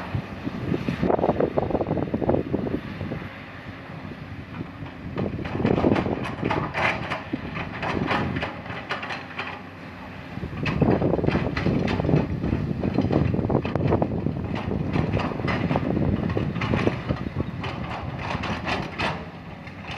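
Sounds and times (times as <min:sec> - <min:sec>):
heavy machine rumble: 0:00.0 - 0:19.9.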